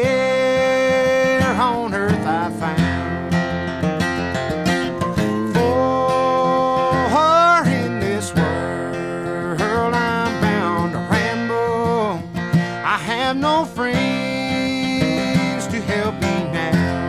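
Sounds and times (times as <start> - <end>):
person singing: 0.0 - 3.3, 5.0 - 17.0
acoustic guitar melody: 0.0 - 17.0.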